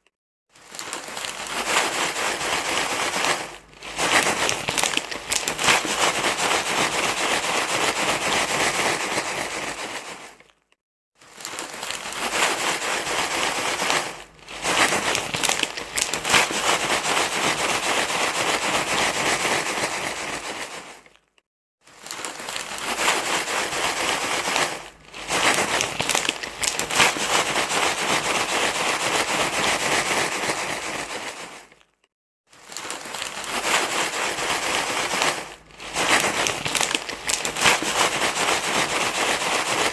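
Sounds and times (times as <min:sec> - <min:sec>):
crackly rustling of crumpled material: 0:00.0 - 0:39.9.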